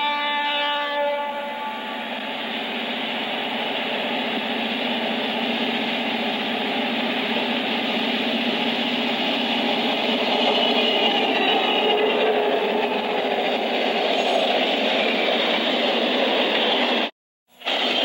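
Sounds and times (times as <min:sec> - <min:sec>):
diesel locomotives rumbling: 0:00.0 - 0:18.0.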